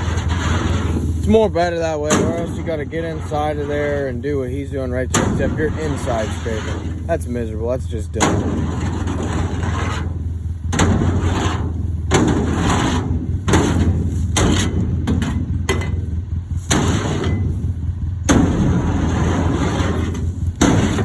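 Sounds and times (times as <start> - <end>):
tool scraping and banging sheet metal: 0.0 - 17.7, 18.3 - 21.0
steady engine hum: 0.0 - 21.0.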